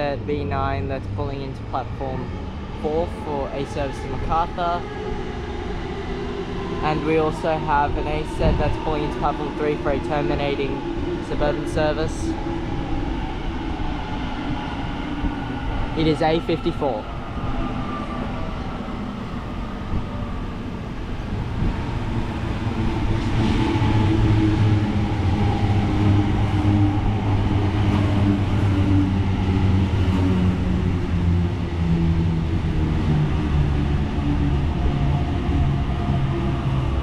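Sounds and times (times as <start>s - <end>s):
train rumbling on rails: 0.0s - 37.0s
train traction motors whining: 0.0s - 37.0s.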